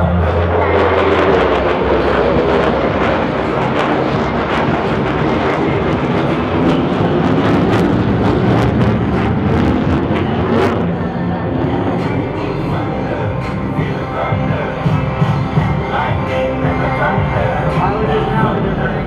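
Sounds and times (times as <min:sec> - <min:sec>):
fighter jet afterburner rumble: 0:00.0 - 0:19.0.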